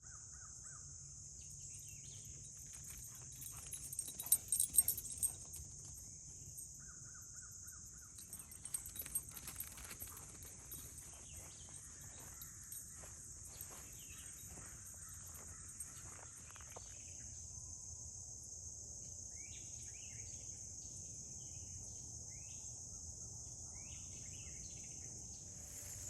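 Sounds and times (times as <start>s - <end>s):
insects chirping: 0.3s - 26.0s.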